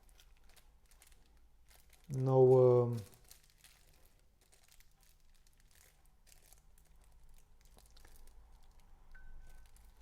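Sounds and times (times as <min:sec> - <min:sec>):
plastic sleeve crinkling and clicking: 0:00.0 - 0:10.0.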